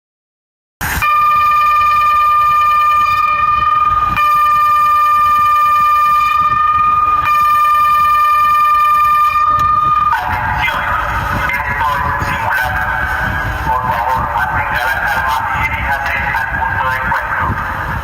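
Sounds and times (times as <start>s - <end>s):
electronic siren steady high tone: 0.8s - 18.0s.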